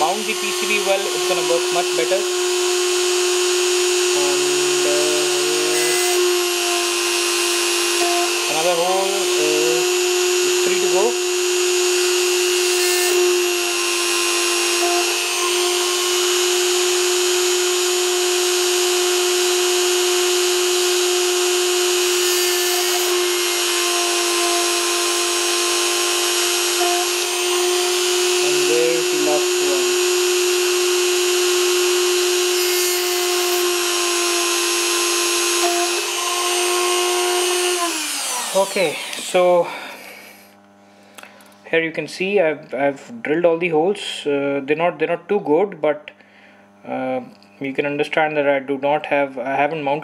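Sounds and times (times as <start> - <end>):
rotary tool drilling circuit board: 0.0 - 40.5.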